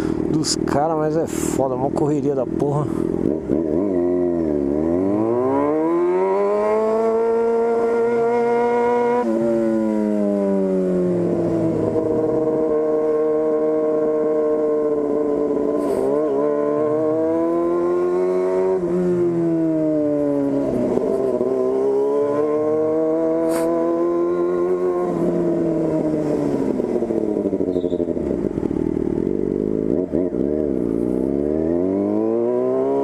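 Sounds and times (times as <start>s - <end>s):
loud motorcycle engine revving: 1.9s - 33.0s.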